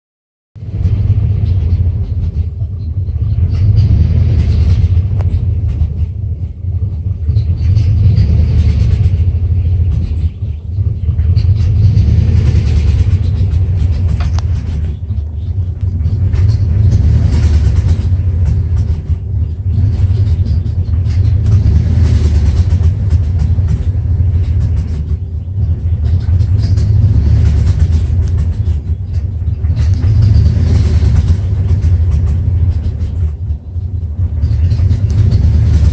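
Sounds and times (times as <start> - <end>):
engine idling rough: 0.6 - 35.9.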